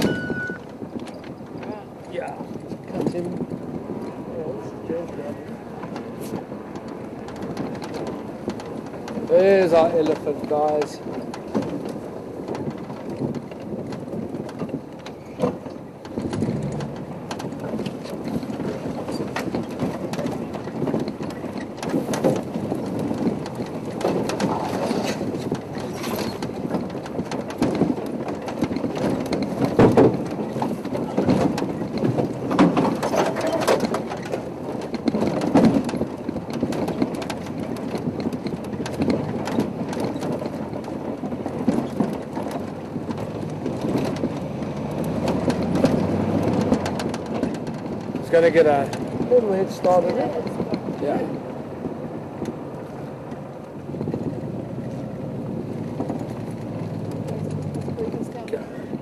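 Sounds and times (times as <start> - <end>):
knocks and crackles: 0.0 - 59.0
vehicle driving over rough ground: 0.0 - 59.0.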